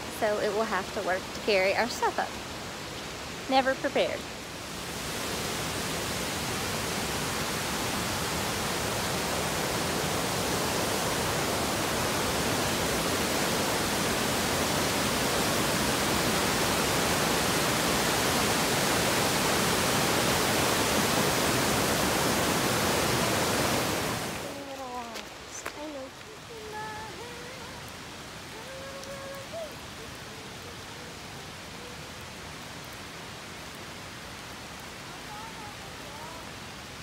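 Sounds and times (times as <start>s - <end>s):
mountain stream rushing over boulders: 0.0s - 37.0s.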